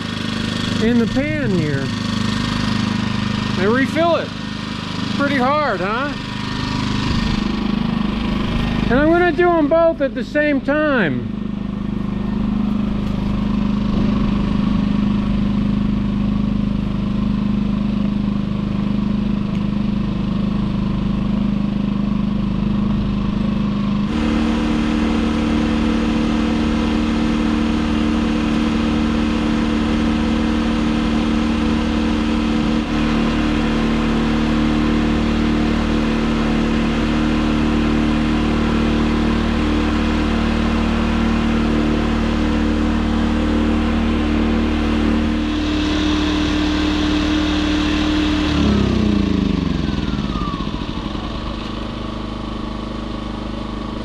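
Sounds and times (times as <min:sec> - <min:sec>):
generators running: 0:00.0 - 0:54.0.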